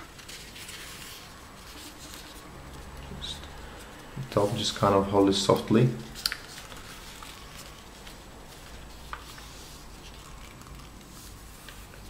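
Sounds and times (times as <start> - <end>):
low background hum: 0.0 - 12.0
paper rustling and creasing: 0.0 - 12.0.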